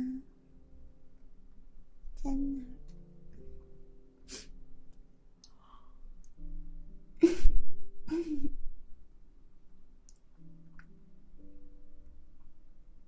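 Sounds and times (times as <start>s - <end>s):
quiet music of held notes: 0.0s - 13.0s.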